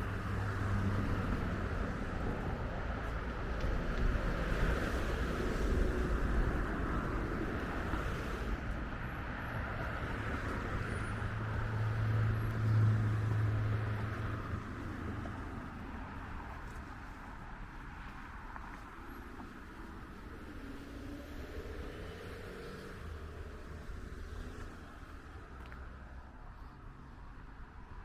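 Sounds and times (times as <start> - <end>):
passing vehicle engine hum: 0.0 - 27.6
tyre and road noise: 0.0 - 28.0.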